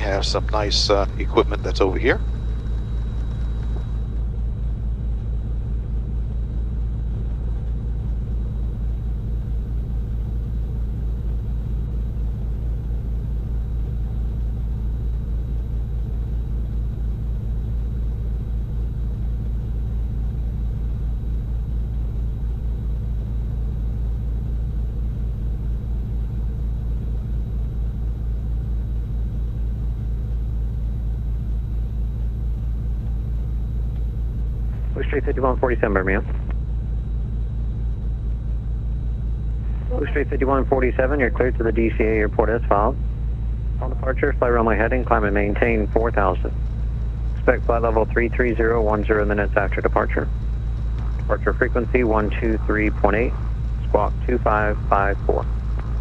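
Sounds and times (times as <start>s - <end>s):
aircraft piston engines idling: 0.0s - 56.0s.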